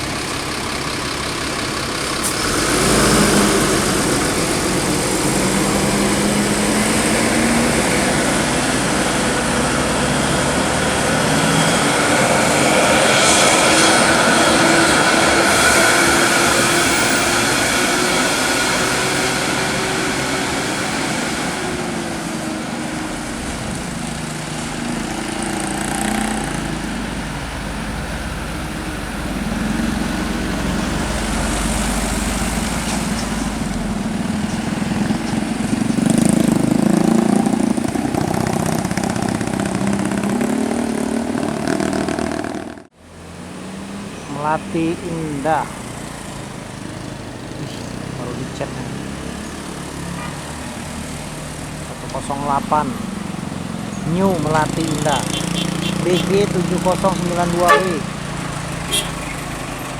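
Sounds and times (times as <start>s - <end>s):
heavy diesel engine passing: 0.0s - 59.9s.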